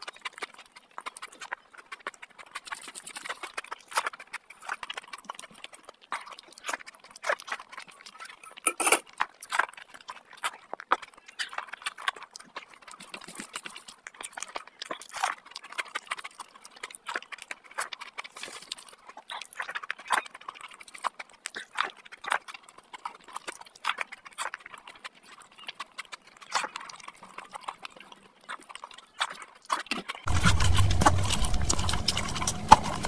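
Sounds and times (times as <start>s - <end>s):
close chewing: 0.0s - 33.0s.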